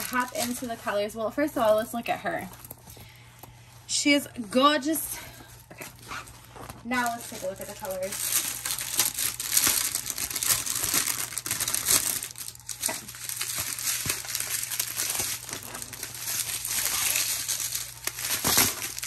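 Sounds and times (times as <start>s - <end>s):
plastic packaging crinkling: 0.0s - 3.6s, 5.2s - 19.0s.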